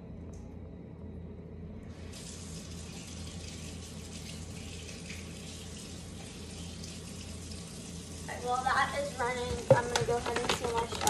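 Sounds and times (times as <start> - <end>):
steady low hum: 0.0 - 11.0
water running from tap: 2.0 - 11.0.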